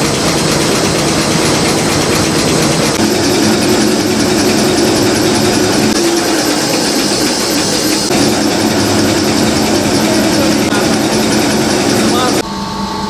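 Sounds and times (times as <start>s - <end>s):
folding machine running: 0.0s - 12.4s.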